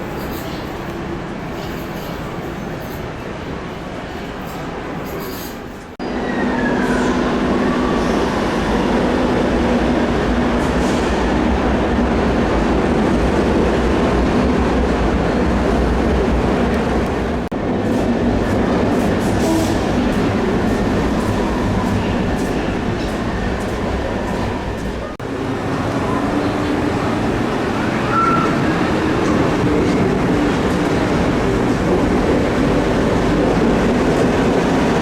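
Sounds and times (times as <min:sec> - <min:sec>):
train wheels and motors rumbling: 0:00.0 - 0:35.0.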